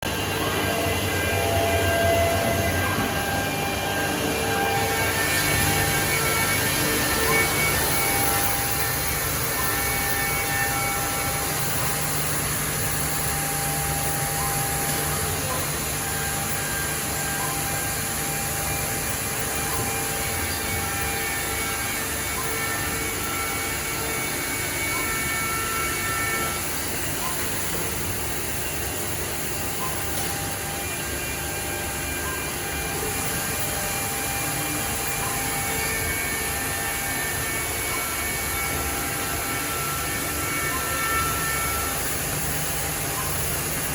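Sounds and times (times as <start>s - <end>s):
machine running with high hiss: 0.0s - 43.9s.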